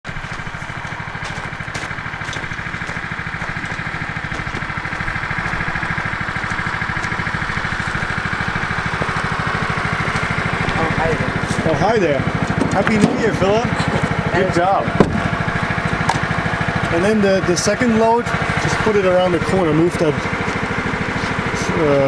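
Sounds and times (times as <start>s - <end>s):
small vehicle engine running: 0.1s - 22.0s.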